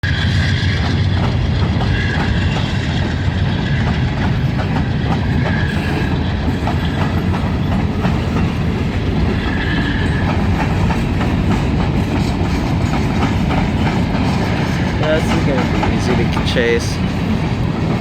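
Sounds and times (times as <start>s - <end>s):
freight train rumbling: 0.0s - 18.0s
wheels clicking over rail joints: 0.7s - 18.0s.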